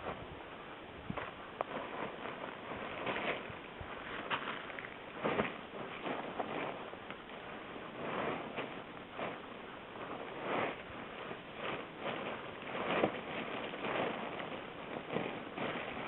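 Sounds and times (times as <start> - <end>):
rustling and swishing: 0.0 - 16.0.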